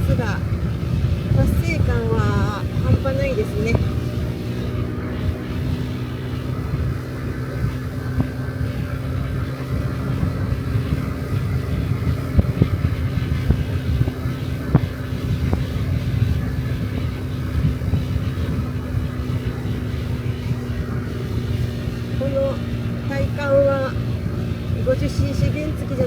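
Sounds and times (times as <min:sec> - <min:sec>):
scooter engine running: 0:00.0 - 0:26.0
wind rumble on microphone: 0:00.0 - 0:26.0.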